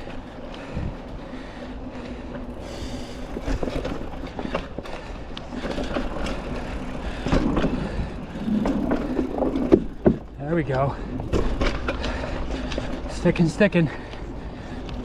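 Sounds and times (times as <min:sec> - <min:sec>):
bike knocking and rattling: 0:00.0 - 0:15.0
bike tyres rumbling on dirt: 0:00.0 - 0:15.0.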